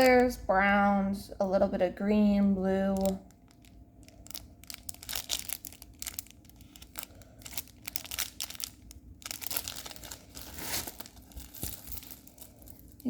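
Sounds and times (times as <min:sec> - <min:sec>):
plastic packaging crinkling: 0:00.0 - 0:00.5, 0:02.6 - 0:13.0.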